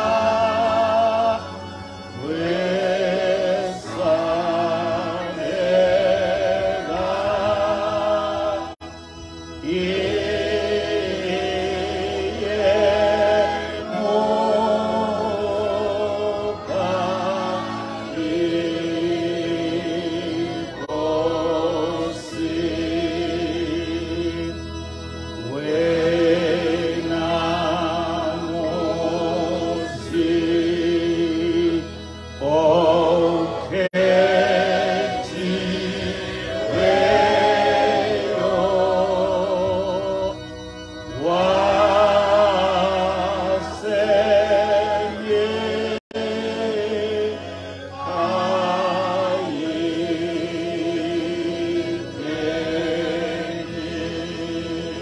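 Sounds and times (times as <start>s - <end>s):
man singing a slow hymn: 0.0s - 55.0s.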